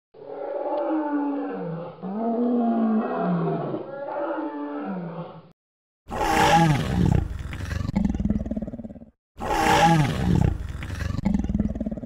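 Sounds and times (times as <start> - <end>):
dinosaur growling roars: 0.2 - 5.4, 6.1 - 12.0.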